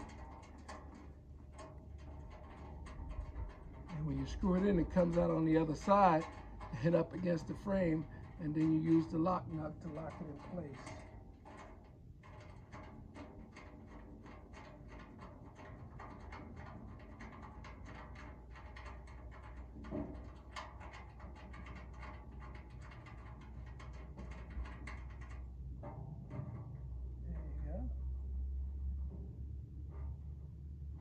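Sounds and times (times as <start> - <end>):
metallic clicks and scrapes: 0.0 - 27.9
low steady rumble: 0.0 - 31.0.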